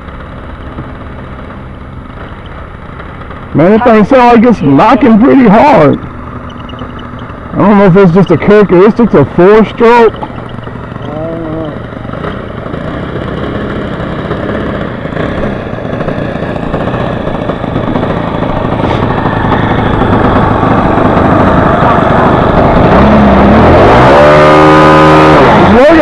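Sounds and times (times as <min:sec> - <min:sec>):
model airplane engine knocking: 0:00.0 - 0:03.6, 0:04.2 - 0:23.8.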